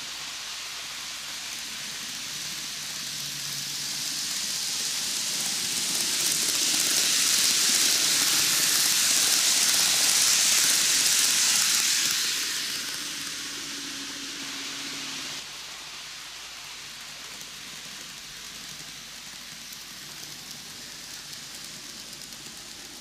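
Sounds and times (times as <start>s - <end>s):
model train wheels and motor hissing: 0.0s - 23.0s.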